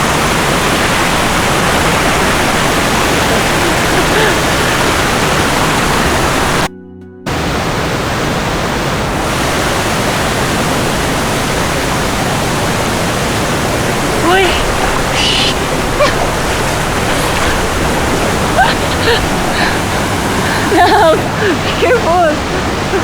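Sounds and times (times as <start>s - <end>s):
waterfall rushing: 0.0s - 6.7s, 7.3s - 23.0s.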